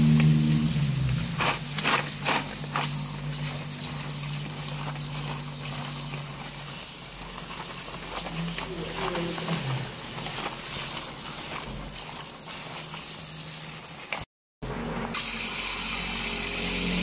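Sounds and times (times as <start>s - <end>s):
hand rubbing wet slices: 0.0s - 14.3s.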